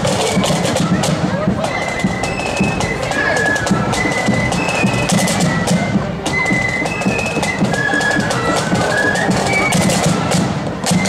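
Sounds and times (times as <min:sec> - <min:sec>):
flutes playing in unison: 0:00.0 - 0:11.0
snare and bass drums: 0:00.0 - 0:11.0.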